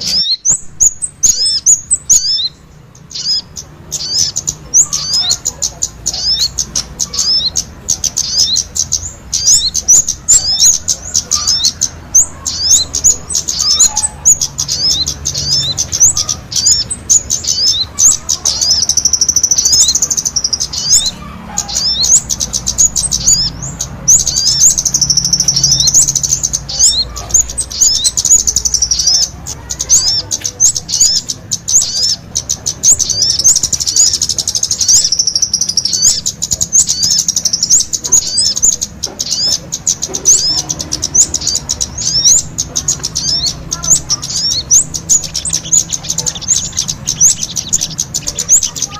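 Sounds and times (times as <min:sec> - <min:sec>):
songbirds chirping and trilling: 0:00.0 - 0:48.9.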